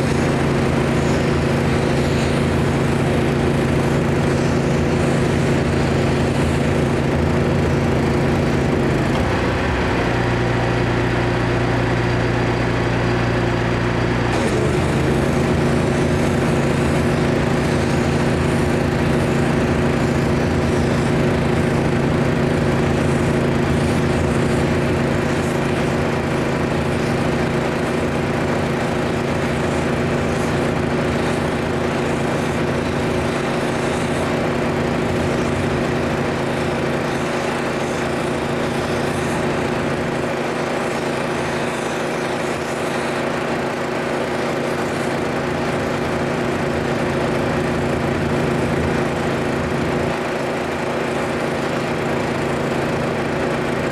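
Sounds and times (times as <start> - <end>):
small engine running steadily: 0.0 - 53.9.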